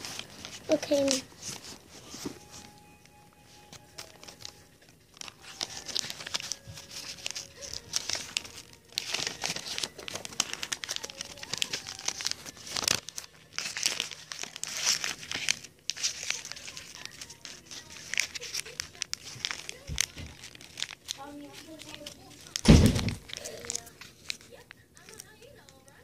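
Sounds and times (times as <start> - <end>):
wrapping material crackling: 0.0 - 26.0.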